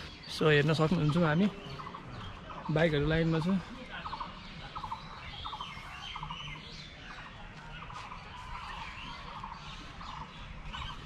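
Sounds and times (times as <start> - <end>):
birds chattering call: 0.0 - 11.0.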